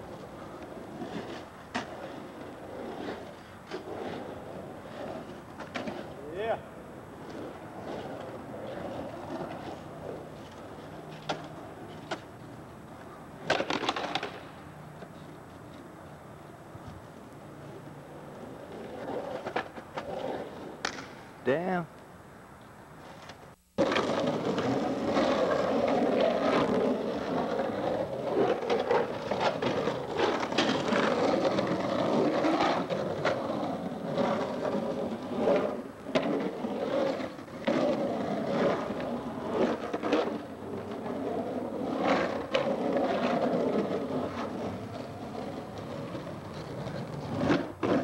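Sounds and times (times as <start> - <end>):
skateboard clacking on concrete: 0.0 - 6.4, 7.2 - 15.9, 18.3 - 21.2, 23.2 - 48.0
skateboard wheels rolling on concrete: 0.0 - 48.0.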